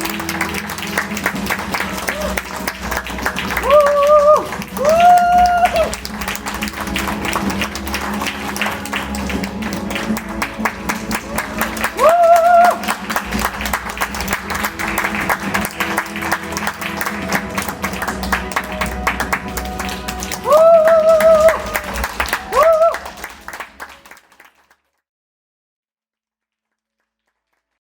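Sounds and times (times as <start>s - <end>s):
background music: 0.0s - 24.4s
audience clapping: 0.0s - 24.9s, 26.5s - 27.8s.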